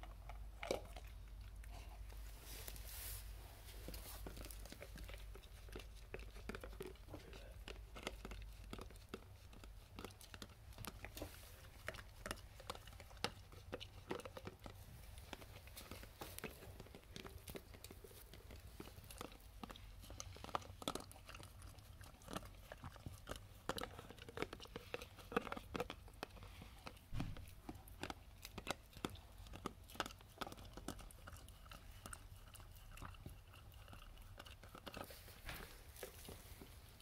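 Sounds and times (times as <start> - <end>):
dog gnawing and licking a jar: 0.0 - 37.0.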